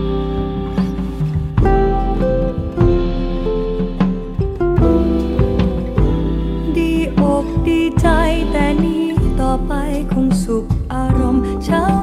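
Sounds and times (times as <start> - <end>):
melody bending in pitch: 0.0 - 10.2
sustained low notes: 0.0 - 10.3
jazz band music: 0.0 - 12.0.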